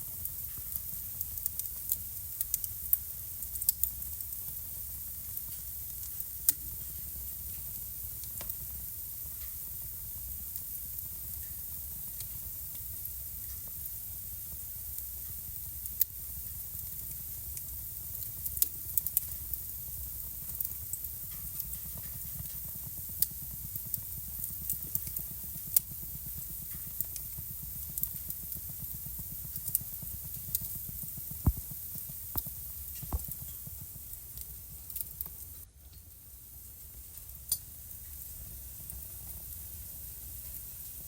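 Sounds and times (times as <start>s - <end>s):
fire crackling and popping: 0.0s - 41.0s
flames rumbling and hissing: 0.0s - 41.0s.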